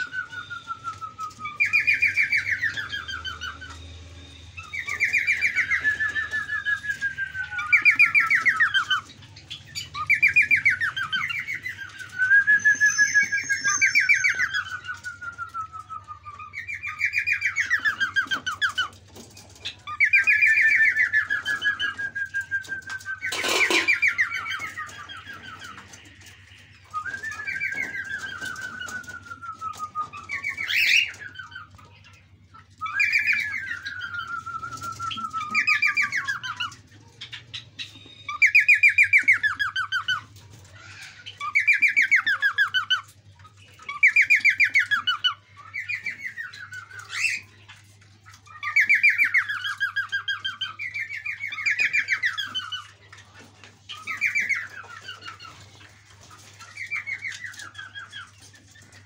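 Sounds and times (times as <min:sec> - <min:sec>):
caged birds calling: 0:00.0 - 0:59.0.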